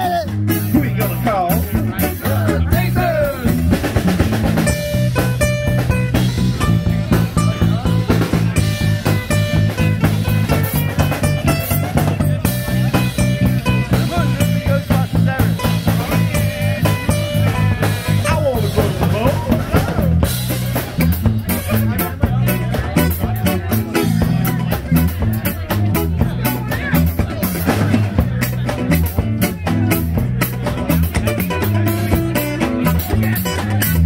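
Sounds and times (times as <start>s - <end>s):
acoustic guitar: 0.0s - 34.0s
drum kit beat: 0.0s - 34.0s
electric bass: 0.0s - 34.0s.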